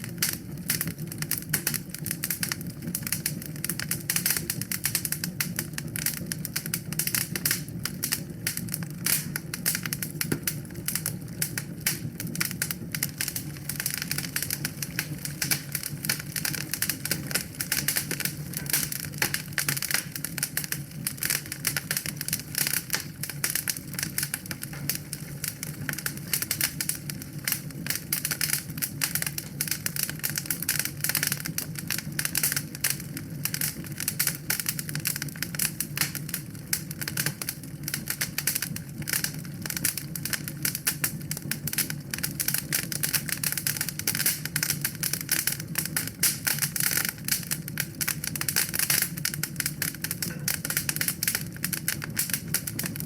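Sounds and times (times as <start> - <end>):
low rumble of flames: 0.0 - 53.0
wood fire crackling: 0.0 - 53.0.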